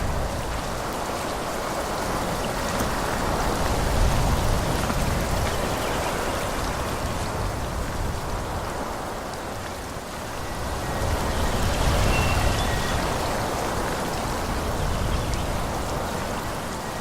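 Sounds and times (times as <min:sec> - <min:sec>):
wind through trees: 0:00.0 - 0:17.0.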